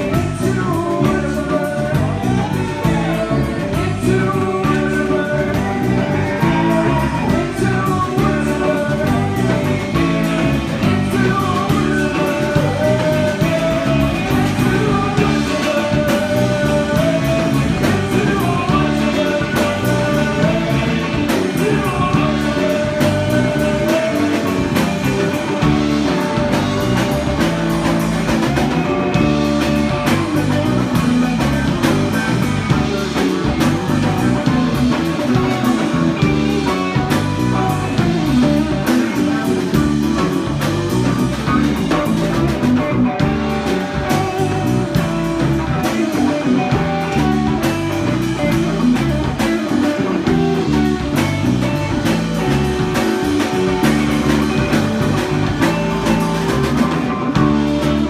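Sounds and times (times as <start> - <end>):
electric guitar: 0.0 - 58.0
live rock band playing: 0.0 - 58.0.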